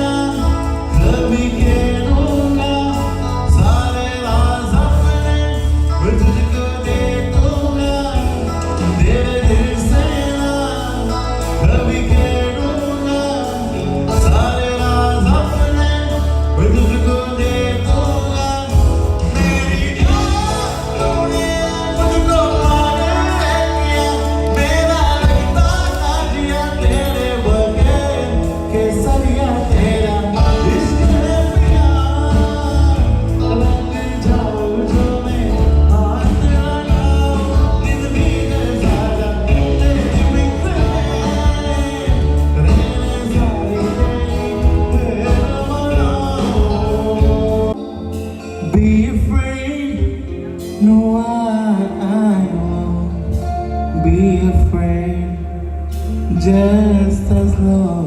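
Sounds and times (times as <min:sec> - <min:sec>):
live band music with singing: 0:00.0 - 0:58.0.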